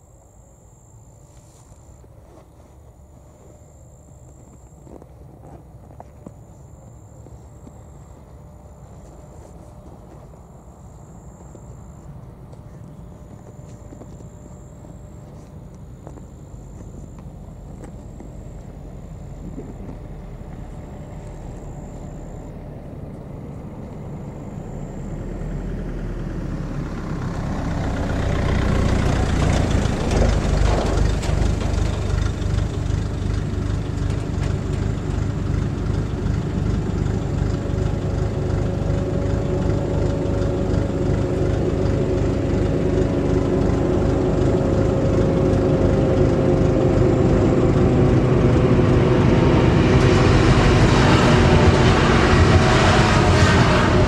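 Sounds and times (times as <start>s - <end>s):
train approaching: 1.3s - 54.0s
truck engine idling: 1.7s - 54.0s.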